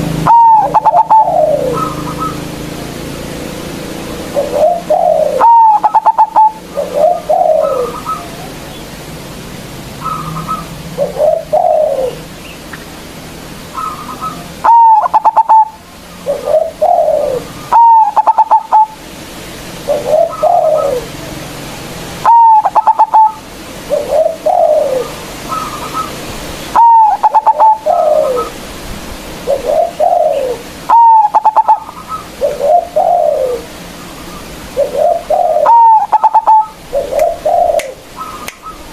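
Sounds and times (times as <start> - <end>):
dove cooing song: 0.0 - 9.0, 9.8 - 12.8, 13.6 - 19.1, 19.7 - 38.9.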